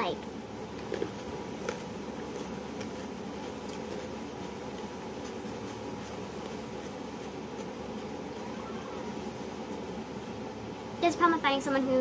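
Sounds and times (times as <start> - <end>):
room hum with hiss: 0.0 - 12.0.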